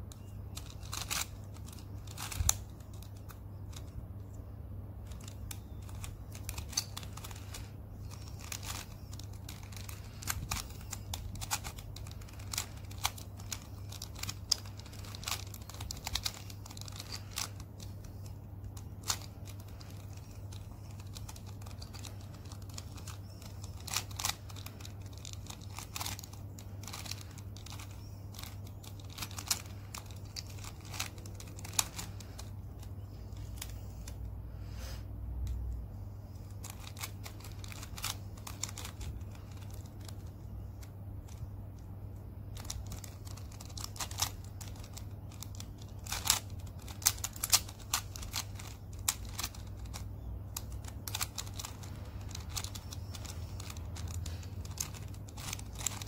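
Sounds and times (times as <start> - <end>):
puzzle cube clicking: 0.0 - 34.2, 36.4 - 41.9, 42.5 - 56.0.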